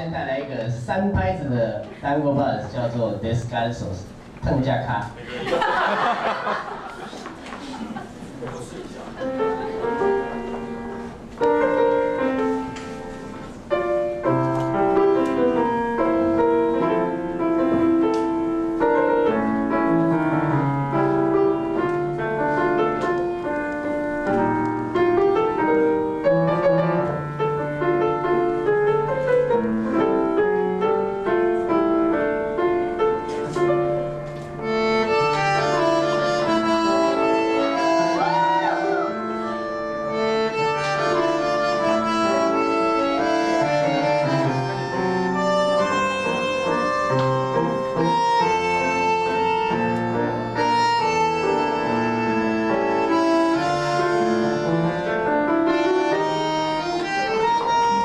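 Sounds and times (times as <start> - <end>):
bandoneon chords: 9.0 - 58.0
solo piano waltz: 9.1 - 38.2, 38.9 - 58.0.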